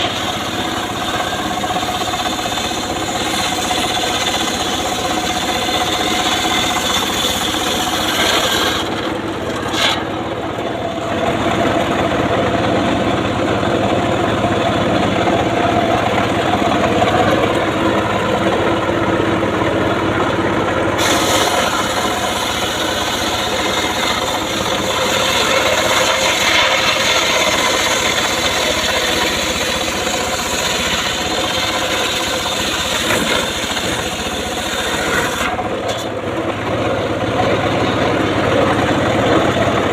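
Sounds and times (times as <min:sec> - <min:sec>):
circular saw cutting wood: 0:00.0 - 0:39.9
engine running: 0:00.0 - 0:39.9.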